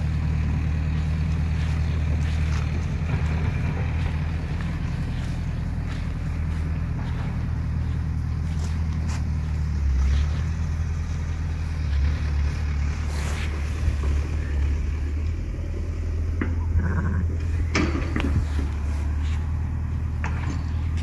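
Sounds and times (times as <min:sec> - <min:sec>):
low motor rumble: 0:00.0 - 0:21.0.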